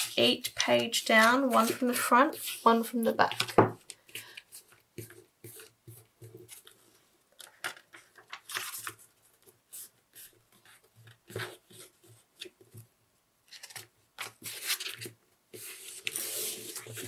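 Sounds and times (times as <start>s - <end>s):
paper rustling: 0.0s - 12.8s, 13.5s - 17.0s.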